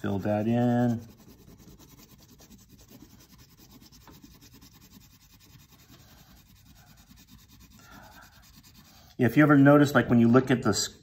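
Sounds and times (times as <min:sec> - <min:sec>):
crayon scratching on paper: 0:00.0 - 0:09.6.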